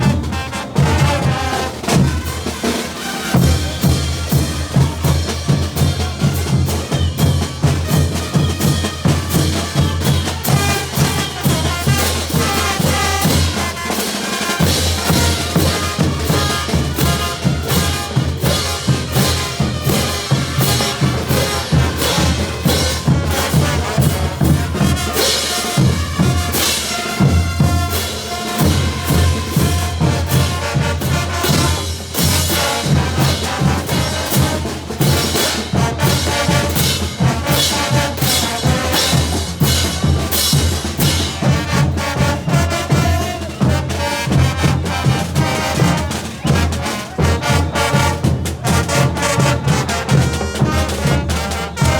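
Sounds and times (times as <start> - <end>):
bass drum and snare beat: 0.0 - 51.9
brass band playing: 0.0 - 51.9.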